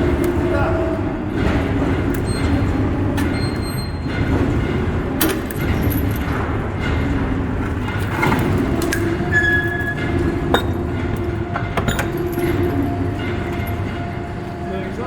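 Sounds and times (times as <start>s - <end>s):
loud mechanical rumble: 0.0s - 15.0s.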